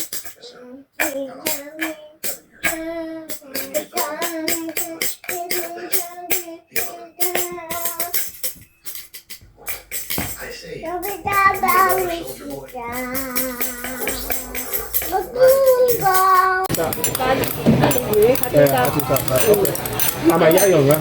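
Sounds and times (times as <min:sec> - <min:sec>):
toy drum jingly hits: 0:00.0 - 0:00.4, 0:01.0 - 0:21.0.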